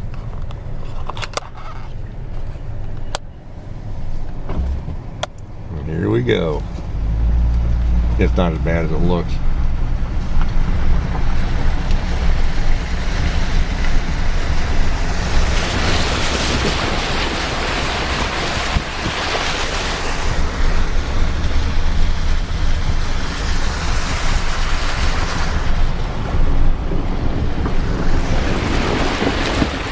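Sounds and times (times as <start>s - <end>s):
vehicle engine running low: 0.0s - 29.9s
tyres churning through water and mud: 3.5s - 29.9s.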